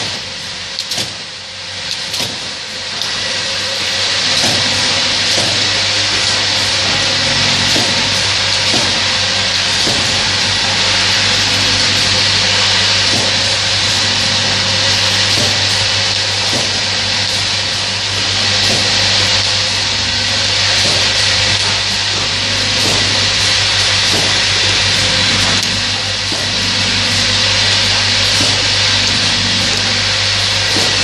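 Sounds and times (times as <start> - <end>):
bottle filling machine hiss: 0.0 - 31.0
low electrical hum: 0.0 - 31.0.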